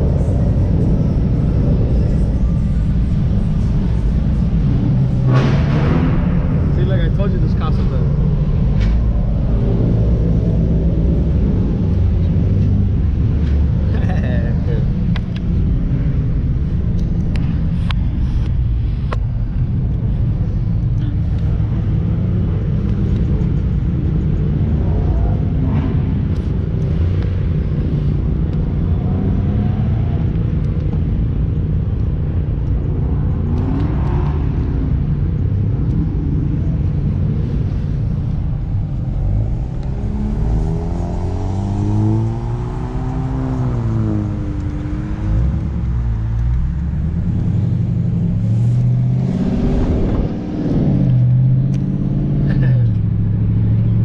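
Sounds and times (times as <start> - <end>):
car engine rumbling and revving: 0.0 - 54.0.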